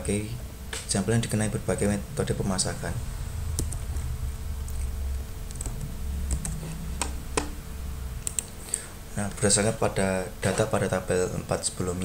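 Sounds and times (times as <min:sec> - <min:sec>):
steady low rumble: 0:00.0 - 0:11.1.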